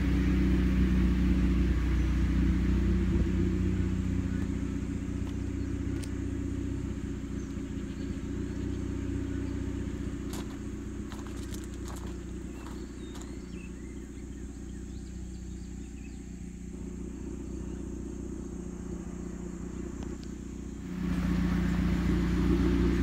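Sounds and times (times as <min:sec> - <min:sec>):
low mechanical rumble with hum: 0:00.0 - 0:23.0.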